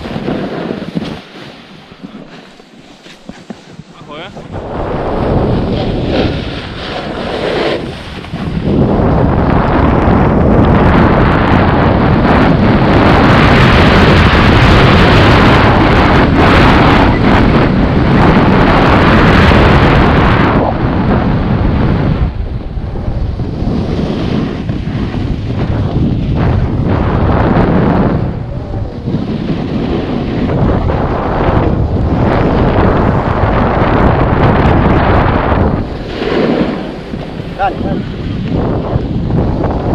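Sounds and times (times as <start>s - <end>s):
snowboard scraping over snow: 0.0s - 39.9s
wind rushing over microphone: 0.0s - 39.9s.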